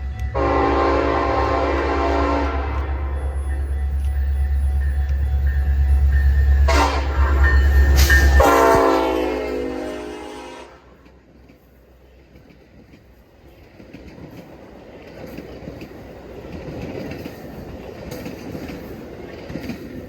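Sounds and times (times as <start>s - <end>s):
train wheels rumbling and clicking: 0.0s - 10.2s, 10.8s - 20.0s.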